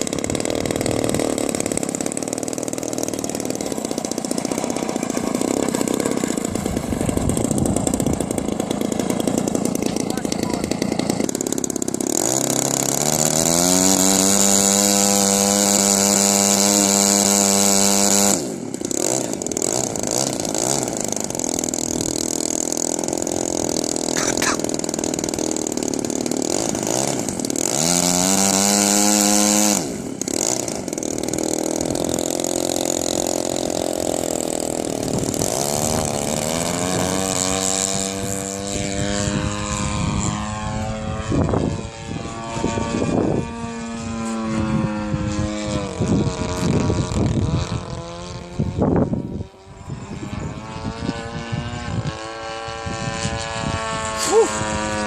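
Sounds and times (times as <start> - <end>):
model plane engine revving: 0.0 - 55.0.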